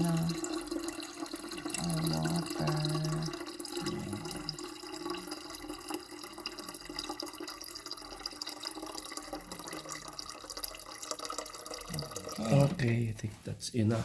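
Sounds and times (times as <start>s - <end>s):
water pouring into plastic tank: 0.0s - 13.0s.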